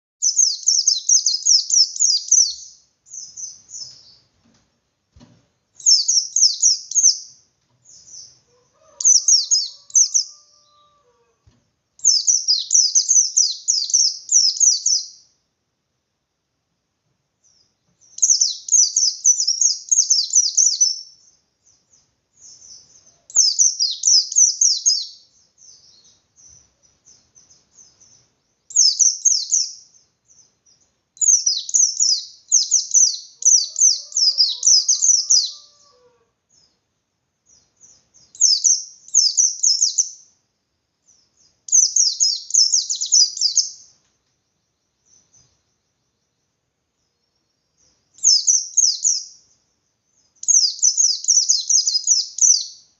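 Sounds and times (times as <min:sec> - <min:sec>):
bird singing chattering song: 0:00.2 - 0:04.3, 0:05.7 - 0:10.6, 0:12.0 - 0:15.3, 0:17.4 - 0:40.4, 0:41.0 - 0:52.9.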